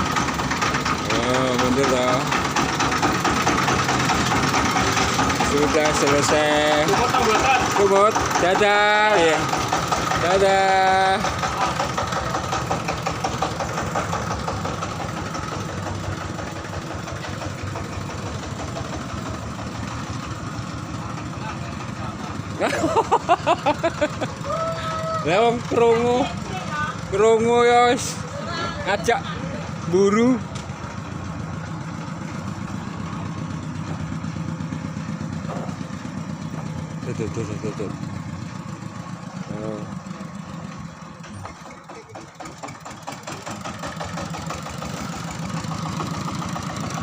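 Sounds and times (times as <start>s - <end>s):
engine running steadily: 0.0s - 47.0s.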